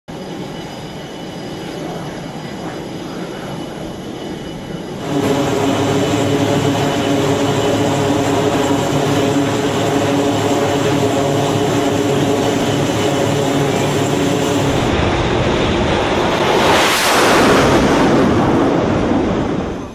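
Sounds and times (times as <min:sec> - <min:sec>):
flight deck engine noise: 0:00.1 - 0:19.9
turboprop engines droning: 0:00.1 - 0:19.9.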